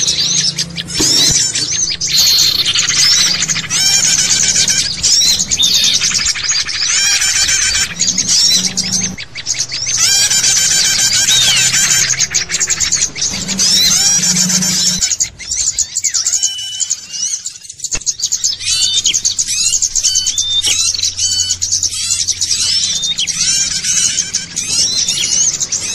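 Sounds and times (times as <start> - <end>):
small birds chirping chorus: 0.0 - 25.9.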